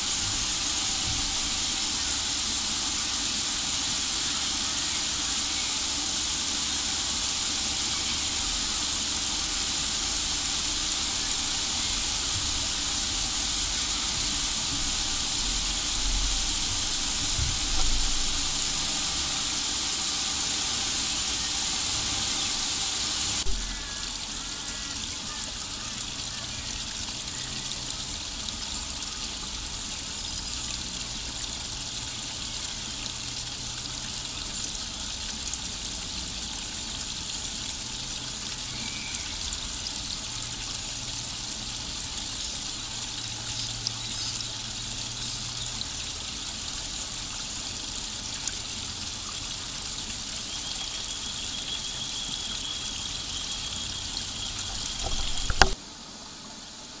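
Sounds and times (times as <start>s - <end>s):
small waterfall splashing over stones: 0.0s - 57.0s.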